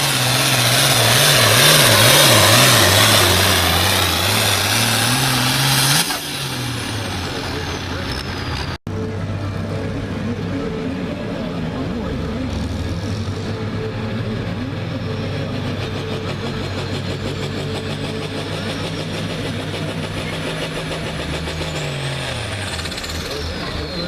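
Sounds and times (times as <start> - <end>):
tractor diesel engine running hard: 0.0 - 24.0.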